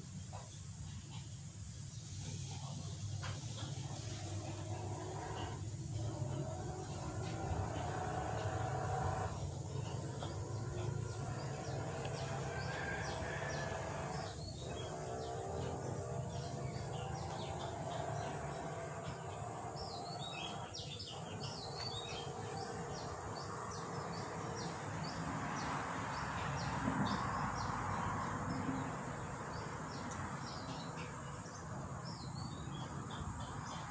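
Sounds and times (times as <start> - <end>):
small birds chirping: 0.0 - 33.9
steady background noise: 0.0 - 33.9.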